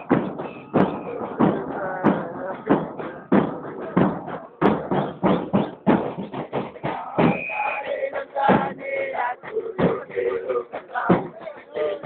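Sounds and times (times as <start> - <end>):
bass drums beating: 0.0 - 12.0
crowd chanting: 0.0 - 12.0.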